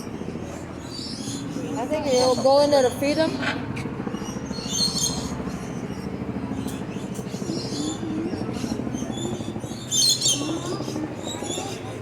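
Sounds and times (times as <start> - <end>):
birds chirping and calling: 0.0 - 12.0
low background murmur: 0.0 - 12.0.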